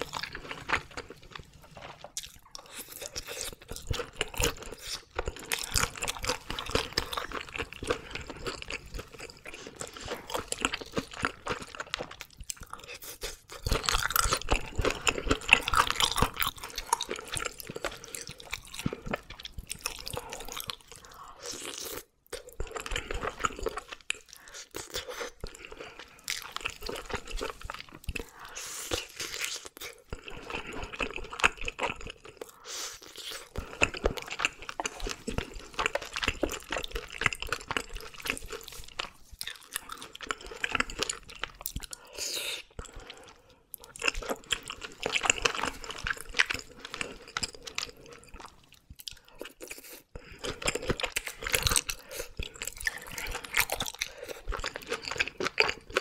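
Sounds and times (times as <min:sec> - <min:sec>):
wet chewing and crunching: 0:00.0 - 0:56.0.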